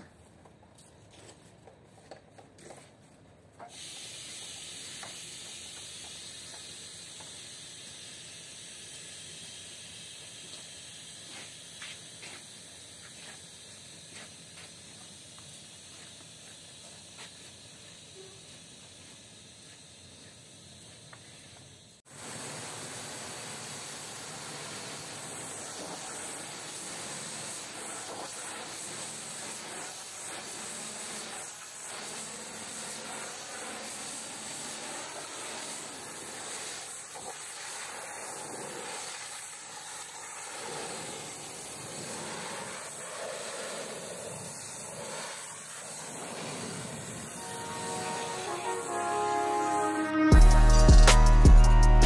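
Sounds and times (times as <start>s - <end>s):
pressure washer spraying water: 3.6s - 52.0s.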